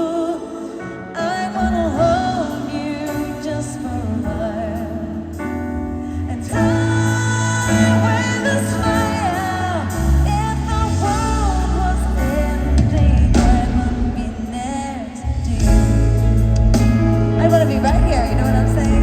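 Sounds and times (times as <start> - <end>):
woman singing pop ballad: 0.0 - 19.0
band accompaniment: 1.3 - 19.0.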